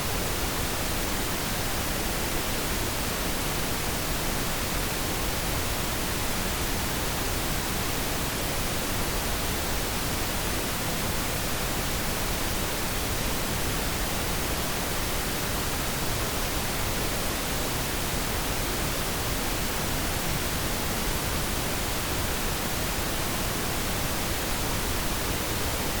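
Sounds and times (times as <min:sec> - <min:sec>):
pink noise hiss: 0:00.0 - 0:26.0.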